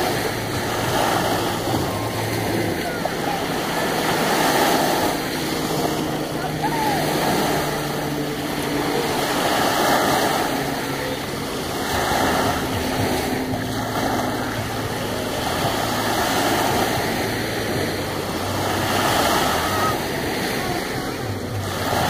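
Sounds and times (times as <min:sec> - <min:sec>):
low engine hum: 0:00.0 - 0:22.0
small waves washing onto sand: 0:00.0 - 0:22.0.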